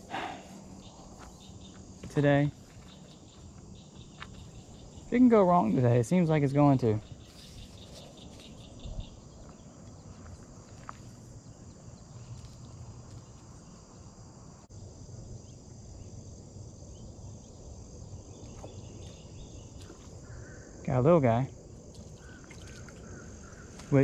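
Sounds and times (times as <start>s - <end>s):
insects chirring: 0.0s - 24.0s
pulsing high insect trill: 0.0s - 24.0s.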